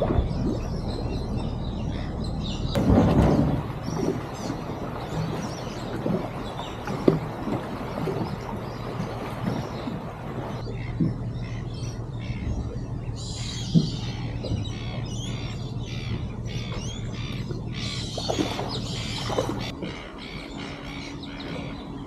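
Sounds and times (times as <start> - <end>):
birds squawking and calling: 0.0 - 22.0
steady low hum: 0.0 - 22.0.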